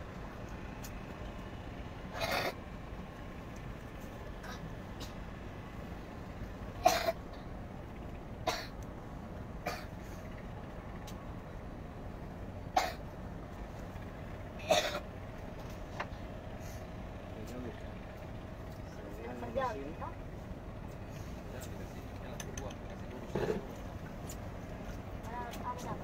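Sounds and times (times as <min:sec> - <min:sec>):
speedboat engine low rumble: 0:00.0 - 0:26.0.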